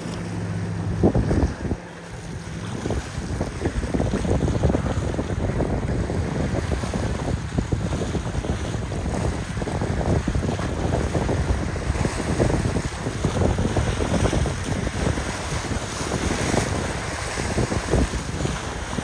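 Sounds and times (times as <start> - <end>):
waves and surf: 0.0 - 19.0
wind buffeting microphone: 0.0 - 19.0.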